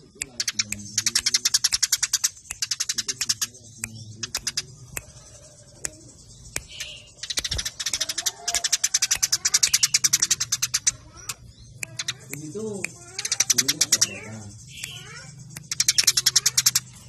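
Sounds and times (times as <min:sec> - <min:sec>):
sparrows chirping rapidly: 0:00.0 - 0:17.0.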